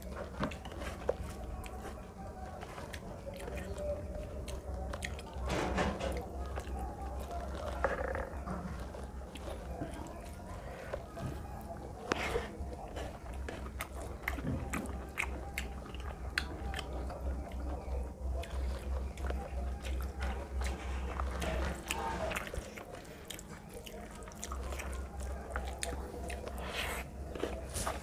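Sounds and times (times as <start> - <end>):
chewing with wet clicks: 0.0 - 28.0
fingers mixing food on metal plate: 0.0 - 28.0.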